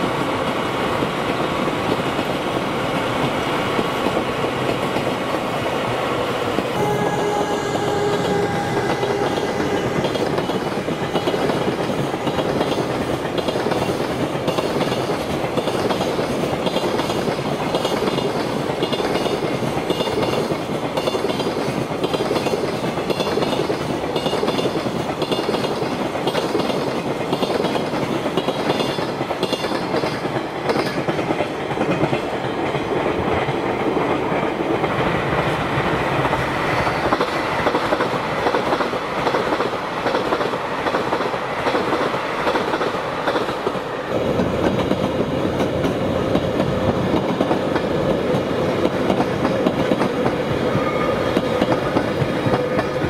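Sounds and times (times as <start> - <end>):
passenger train passing: 0.0 - 53.0.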